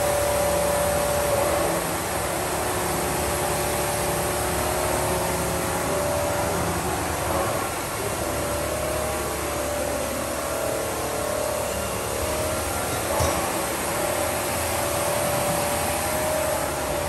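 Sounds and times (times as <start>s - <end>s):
hum of motors and hydraulics: 0.0s - 17.0s.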